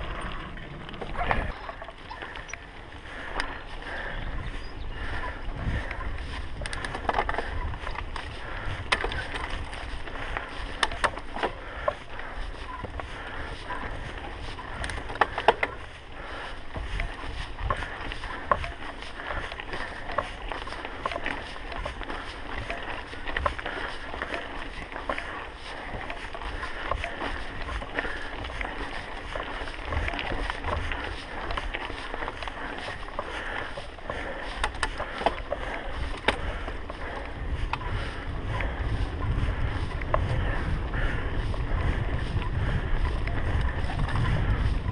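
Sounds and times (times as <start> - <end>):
bike rattling clicks: 0.0 - 44.9
bike tyres on gravel: 0.0 - 44.9
wind on microphone: 0.0 - 44.9.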